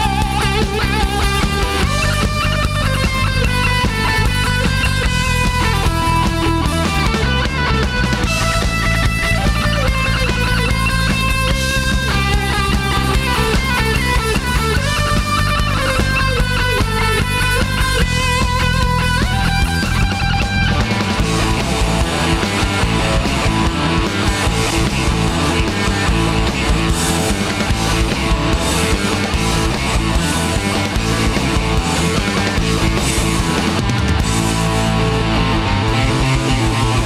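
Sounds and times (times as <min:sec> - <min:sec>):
lead electric guitar melody: 0:00.0 - 0:37.0
rock band instrumental: 0:00.0 - 0:37.0.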